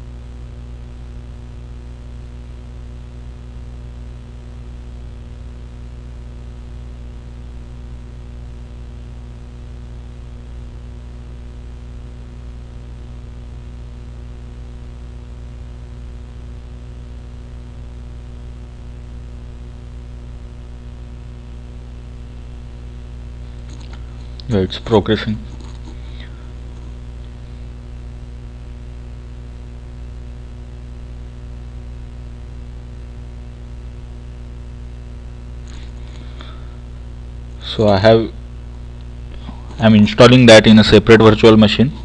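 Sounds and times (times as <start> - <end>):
constant hiss: 0.0 - 42.0
low electrical hum: 0.0 - 42.0.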